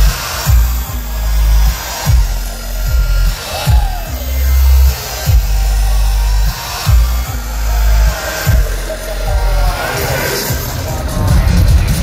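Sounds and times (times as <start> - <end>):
rising synth line: 0.0 - 11.7
crowd voices: 0.0 - 12.0
electronic dance music: 0.0 - 12.0.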